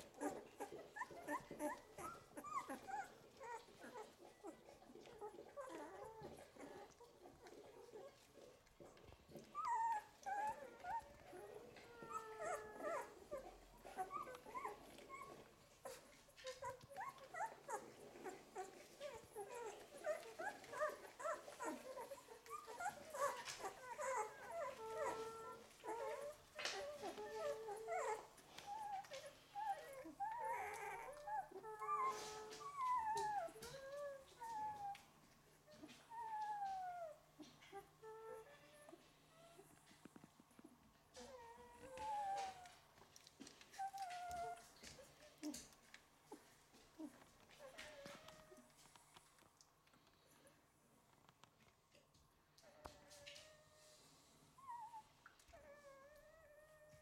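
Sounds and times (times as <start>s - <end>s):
puppies whimpering and squeaking: 0.0s - 49.4s, 52.5s - 57.0s.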